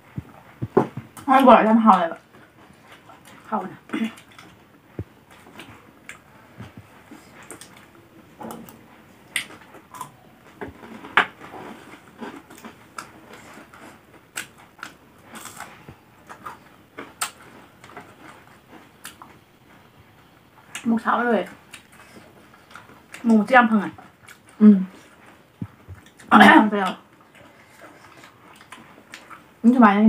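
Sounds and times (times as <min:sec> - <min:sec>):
crunching and chewing fried food: 0:00.1 - 0:29.8.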